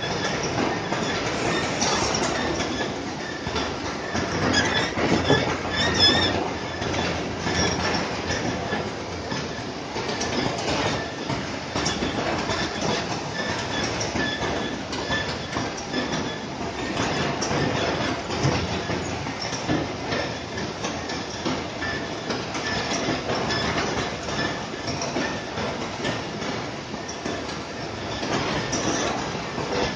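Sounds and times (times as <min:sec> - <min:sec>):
roller conveyors rattling: 0:00.0 - 0:29.9.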